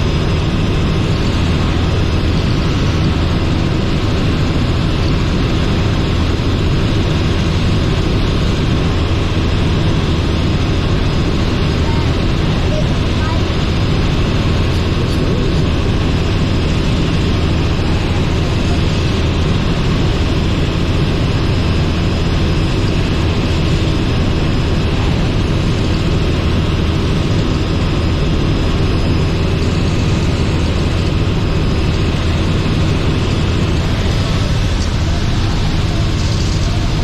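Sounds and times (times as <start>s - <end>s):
helicopter engine and rotors droning: 0.0s - 37.0s.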